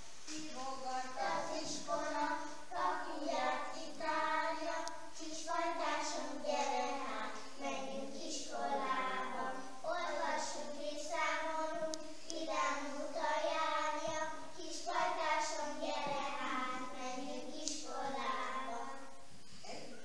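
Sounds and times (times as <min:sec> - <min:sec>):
children singing unaccompanied: 0:00.3 - 0:19.8.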